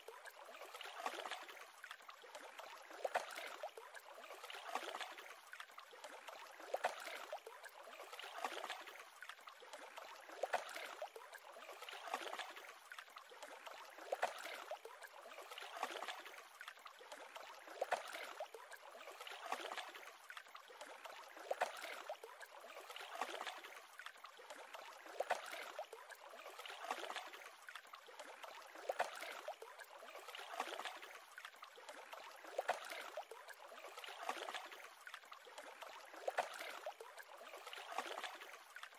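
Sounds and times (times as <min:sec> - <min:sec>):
lake waves lapping at shore: 0:00.0 - 0:38.9.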